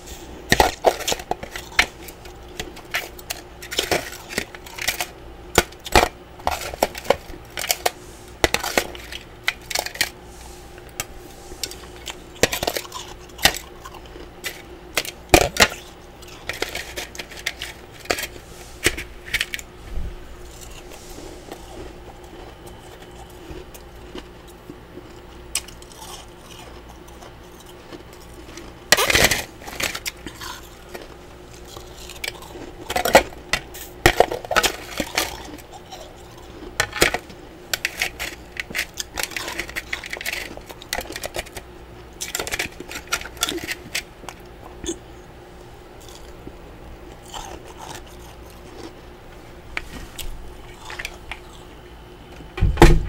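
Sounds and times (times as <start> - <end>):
crunching and chewing frost: 0.0 - 52.4
faint steady hum: 0.0 - 53.0.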